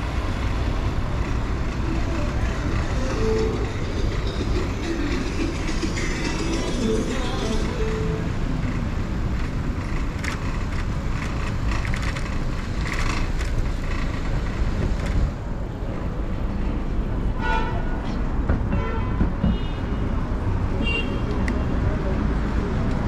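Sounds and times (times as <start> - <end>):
city road traffic: 0.0 - 23.0.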